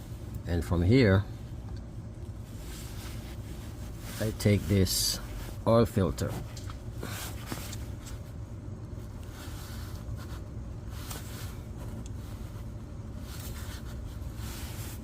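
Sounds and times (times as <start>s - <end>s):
steady low hum: 0.0s - 15.0s
gloved hand rustling and scraping: 2.3s - 15.0s.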